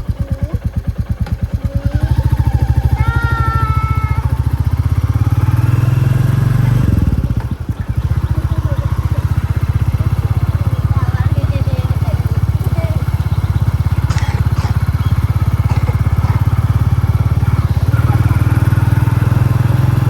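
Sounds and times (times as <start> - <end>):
motorcycle engine thumping: 0.0 - 20.0.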